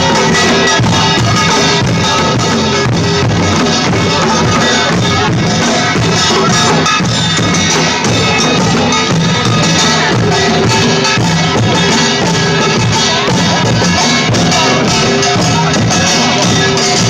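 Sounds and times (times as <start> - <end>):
drums and percussion: 0.0 - 17.0
sustained melodic instruments: 0.0 - 17.0.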